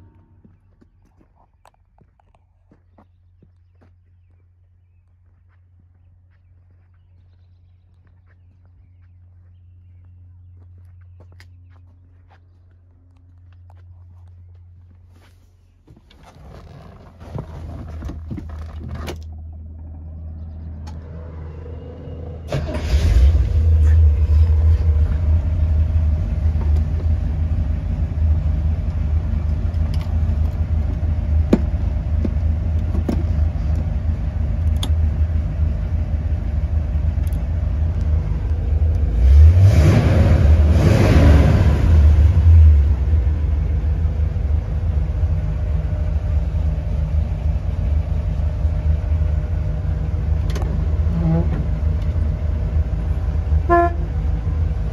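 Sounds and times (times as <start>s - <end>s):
car engine idling and revving: 4.9s - 54.9s.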